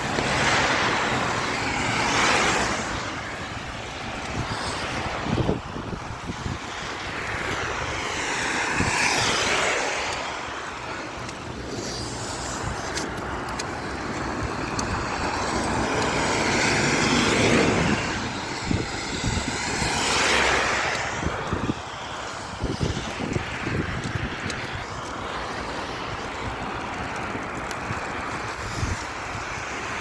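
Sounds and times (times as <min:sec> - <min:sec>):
cars passing on a road: 0:00.0 - 0:30.0.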